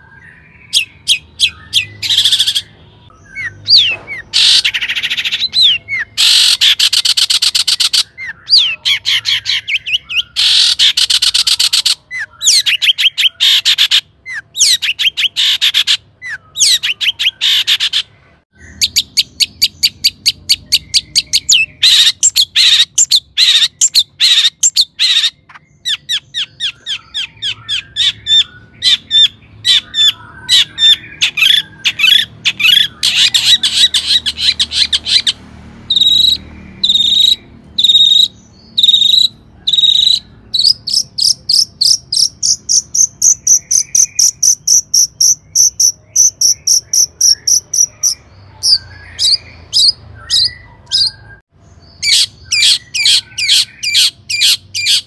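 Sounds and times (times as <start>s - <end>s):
shrike singing: 0.0s - 55.0s.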